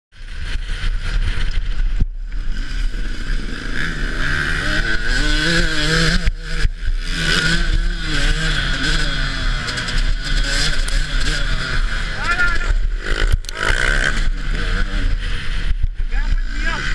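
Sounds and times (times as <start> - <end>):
dirt bike engine revving: 0.2 - 16.9
steady noisy rush: 0.2 - 16.9.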